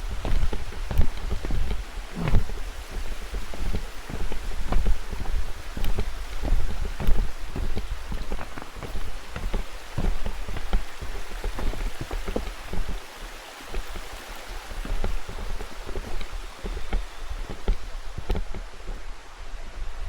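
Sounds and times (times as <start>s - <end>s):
rain drops pattering: 0.0s - 20.0s
steady hiss: 0.0s - 20.0s.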